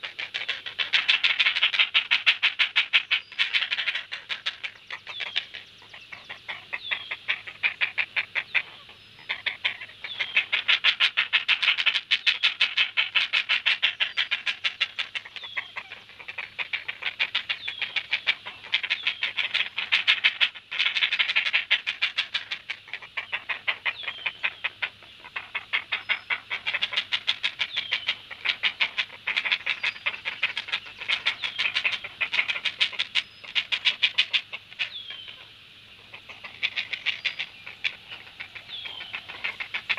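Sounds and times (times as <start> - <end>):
heron chicks begging calls: 0.0 - 39.9.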